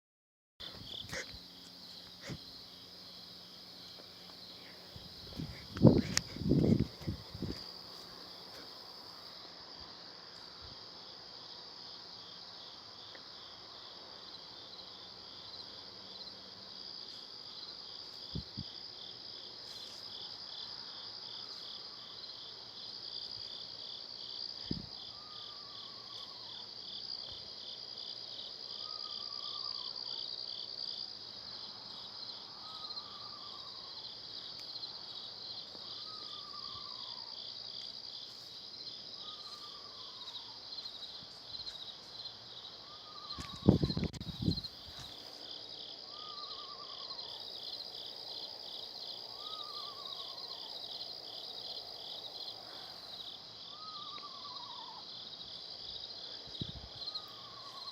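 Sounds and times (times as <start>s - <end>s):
night insects trilling: 0.6s - 57.9s.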